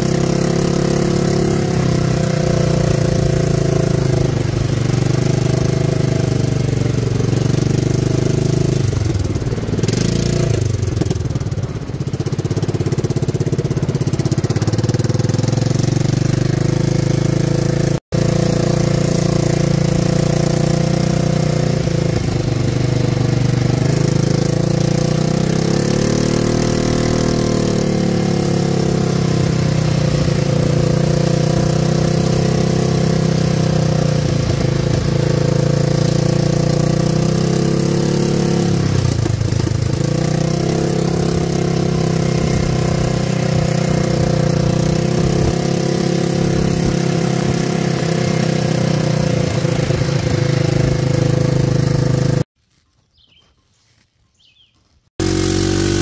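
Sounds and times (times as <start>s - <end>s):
atv engine running: 0.0s - 52.5s, 54.6s - 56.0s.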